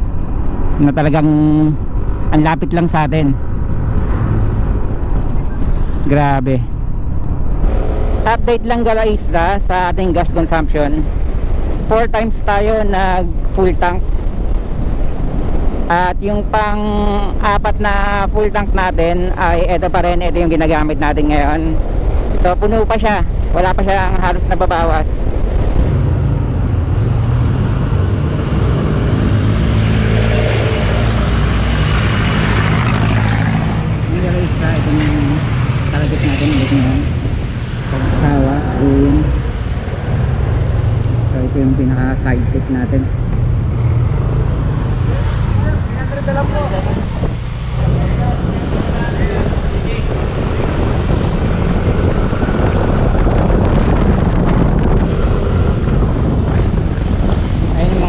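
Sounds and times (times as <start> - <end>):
road noise: 0.0 - 58.0
vehicle engine hum: 0.0 - 58.0
wind buffeting microphone: 0.0 - 58.0.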